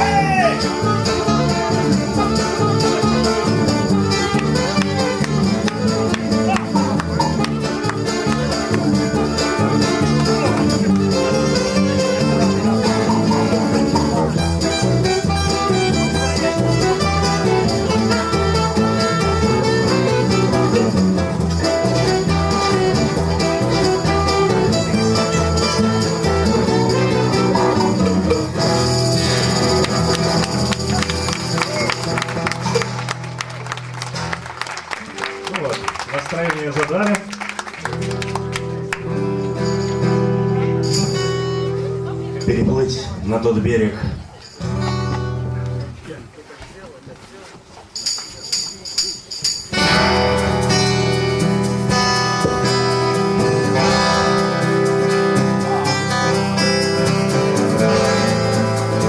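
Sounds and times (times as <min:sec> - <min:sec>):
guitars playing: 0:00.0 - 0:46.0, 0:49.7 - 0:59.0.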